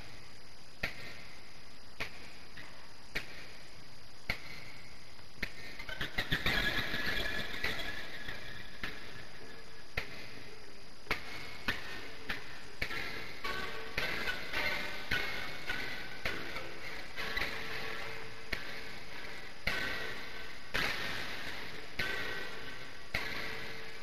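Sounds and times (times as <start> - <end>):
cassette tape hiss: 0.0 - 24.0.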